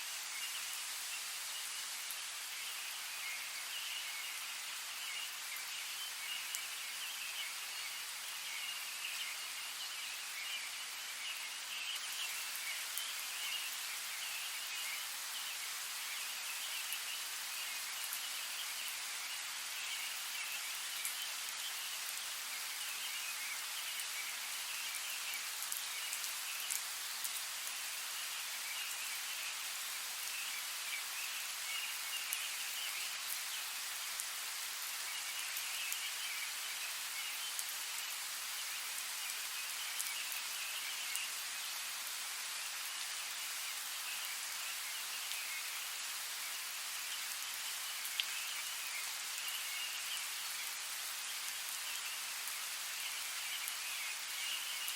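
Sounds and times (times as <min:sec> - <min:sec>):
rain on foliage: 0:00.0 - 0:54.9.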